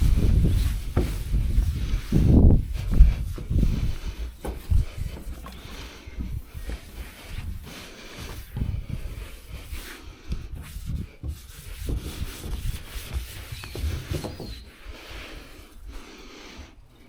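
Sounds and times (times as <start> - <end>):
rubbing strokes on a surface: 0.0 - 16.2.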